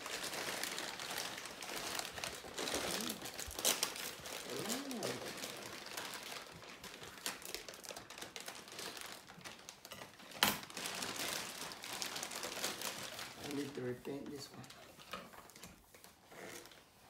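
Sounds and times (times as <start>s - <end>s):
packaging crinkling: 0.0s - 16.9s.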